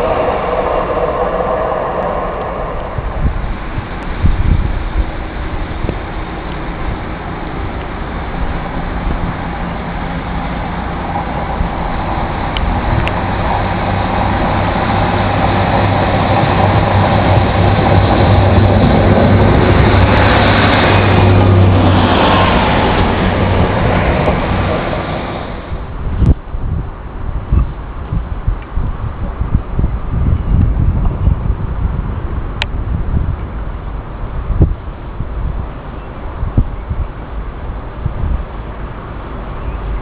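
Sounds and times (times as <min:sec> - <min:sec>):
train engine hum: 0:00.0 - 0:40.0
wheel-on-rail noise: 0:00.0 - 0:40.0
wind buffeting microphone: 0:00.0 - 0:40.0.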